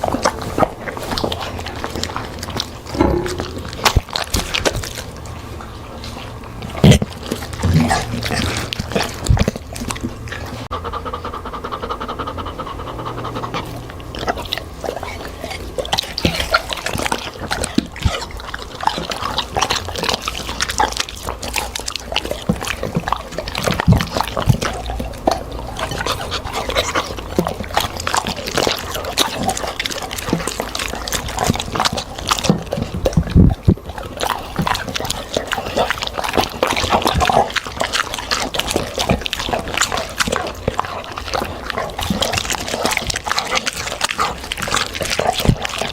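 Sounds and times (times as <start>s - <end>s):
dog chewing wetly: 0.0s - 45.9s.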